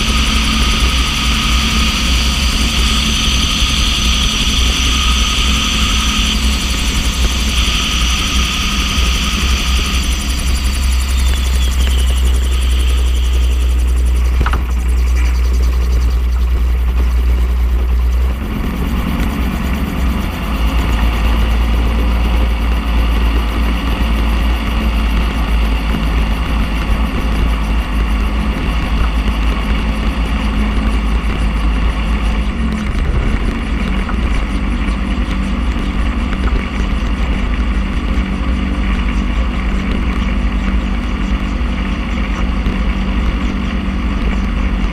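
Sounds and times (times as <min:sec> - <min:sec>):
gyroplane engine and propeller: 0:00.0 - 0:44.9
heavy low rumble: 0:00.0 - 0:44.9.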